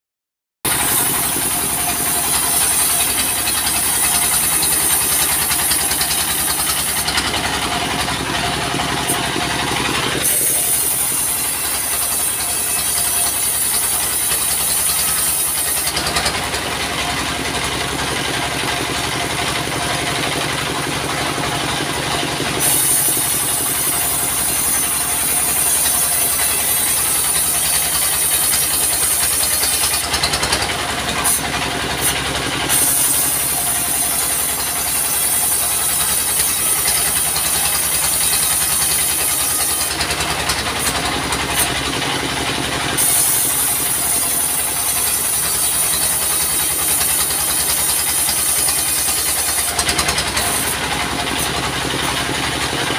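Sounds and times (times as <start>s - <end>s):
diesel engine running: 0.6s - 52.9s.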